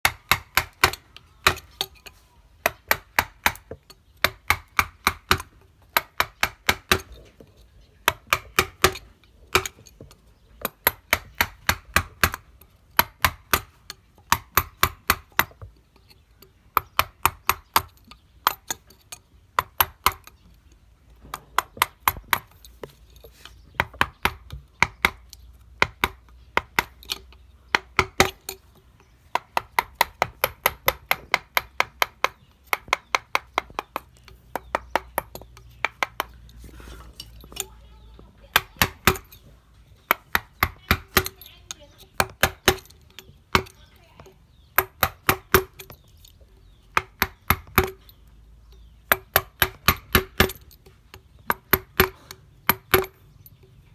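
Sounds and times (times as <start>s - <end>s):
wood carving knocks: 0.0s - 53.9s.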